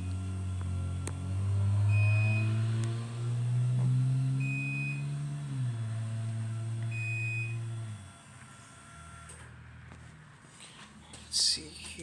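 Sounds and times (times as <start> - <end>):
garage door opener motor humming: 0.0 - 10.1.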